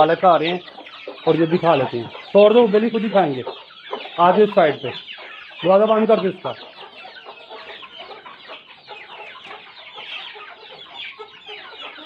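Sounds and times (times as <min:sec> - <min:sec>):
chickens clucking: 0:00.0 - 0:12.0
chicks peeping: 0:00.0 - 0:12.0.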